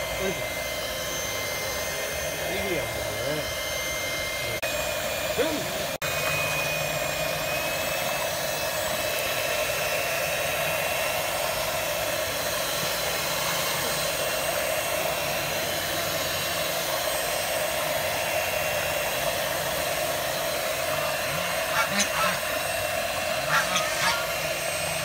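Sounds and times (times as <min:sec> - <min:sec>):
electric hand mixer whisking: 0:00.0 - 0:25.0.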